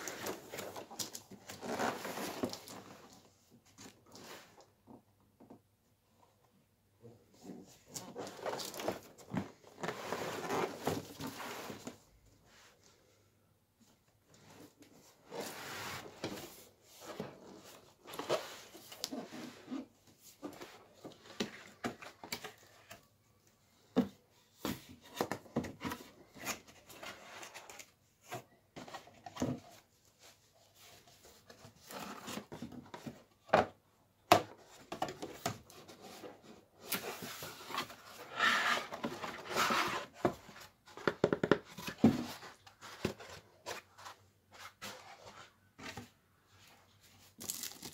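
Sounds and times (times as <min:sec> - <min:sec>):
cardboard rustling and scraping: 0:00.0 - 0:04.6, 0:07.4 - 0:12.7, 0:14.3 - 0:23.1, 0:24.0 - 0:33.7, 0:34.3 - 0:47.9.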